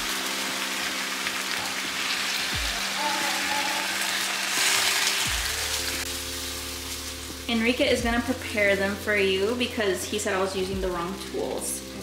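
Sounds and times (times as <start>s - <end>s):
background music with held chords: 0.0s - 12.0s
tortillas sizzling in hot oil: 0.0s - 12.0s.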